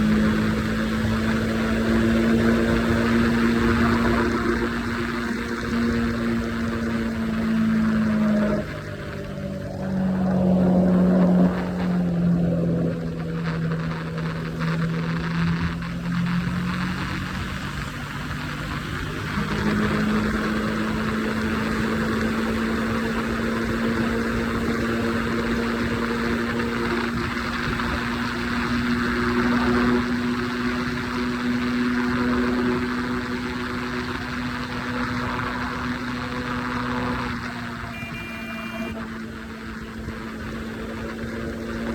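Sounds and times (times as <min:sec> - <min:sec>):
motorcycle engine at highway speed: 0:00.0 - 0:41.9
wind and tyre noise: 0:00.0 - 0:41.9.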